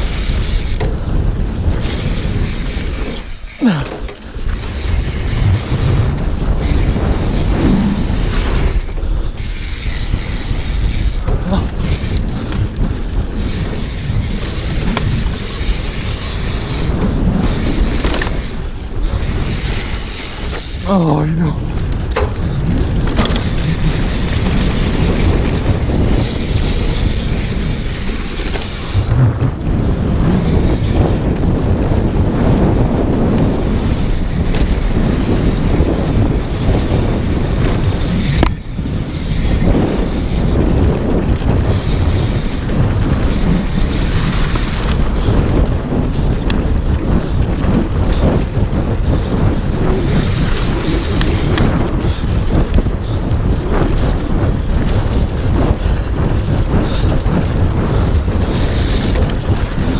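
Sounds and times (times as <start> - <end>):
bike tyres crunching over dirt: 0.0 - 59.9
wind buffeting microphone: 0.0 - 59.9.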